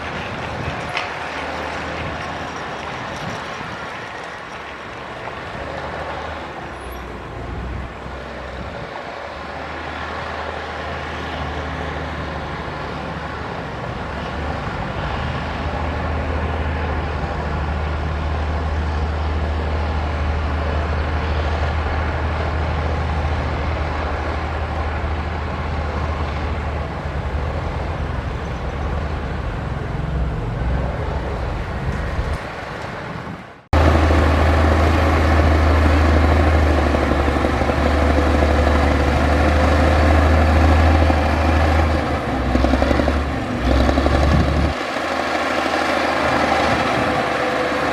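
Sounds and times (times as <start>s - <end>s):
heavy diesel engine droning: 0.0s - 47.9s.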